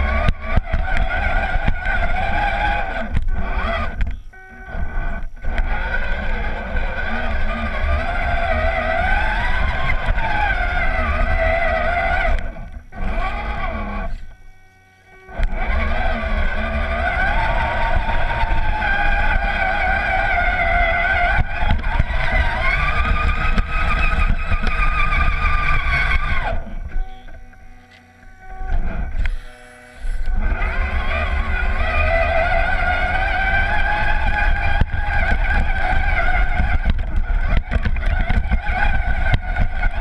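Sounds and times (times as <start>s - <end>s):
electric motor whining: 0.0s - 40.0s.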